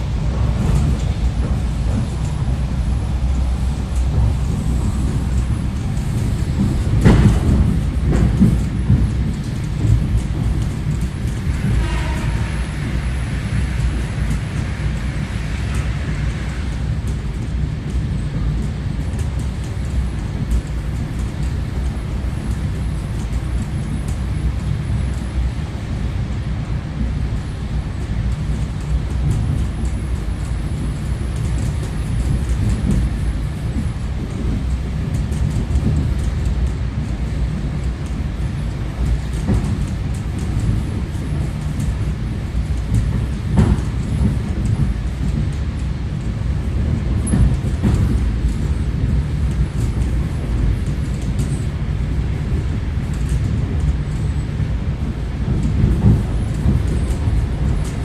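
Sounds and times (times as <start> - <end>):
train wheels and motors rumbling: 0.0 - 58.0.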